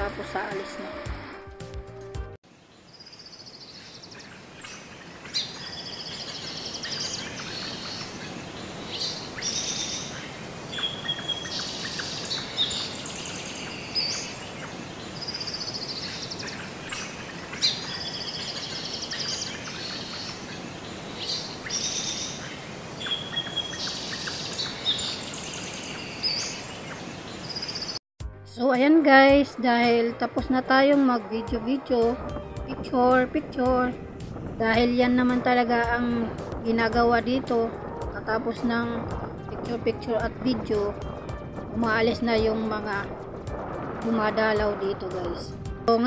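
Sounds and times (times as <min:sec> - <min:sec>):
birds chirping and trilling: 0:02.5 - 0:28.0, 0:34.6 - 0:46.0.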